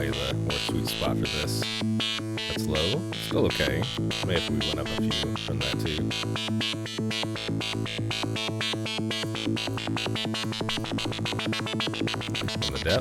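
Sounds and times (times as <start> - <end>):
repeating synth guitar notes: 0.0 - 13.0.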